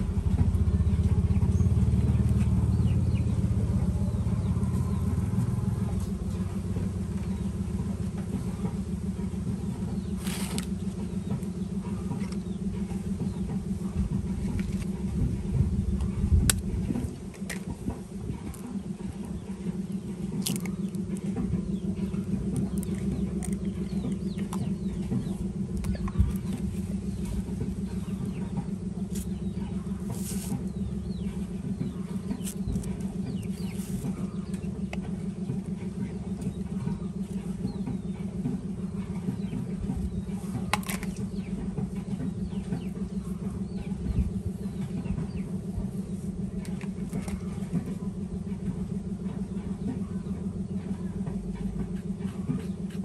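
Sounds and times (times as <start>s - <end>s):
low motor drone: 0.0s - 53.0s.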